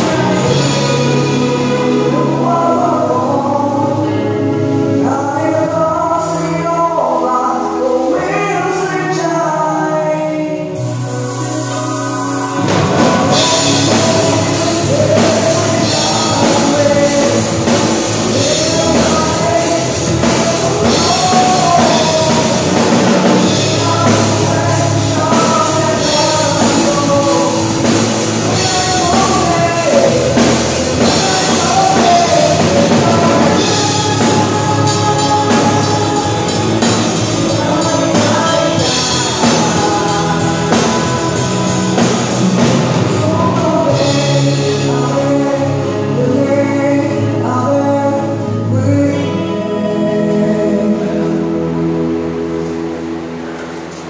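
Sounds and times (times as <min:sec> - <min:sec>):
song with band and drums: 0:00.0 - 0:54.0.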